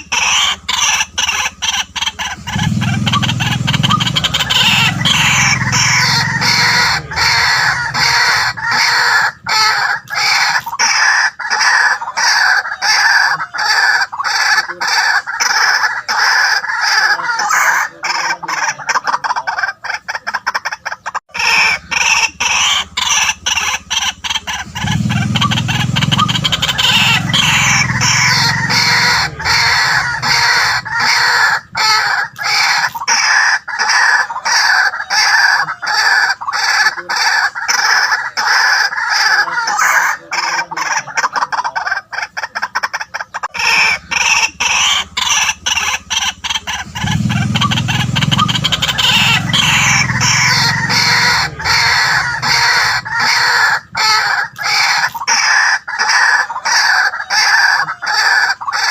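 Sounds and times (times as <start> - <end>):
waterhen harsh calls: 0.0 - 58.9.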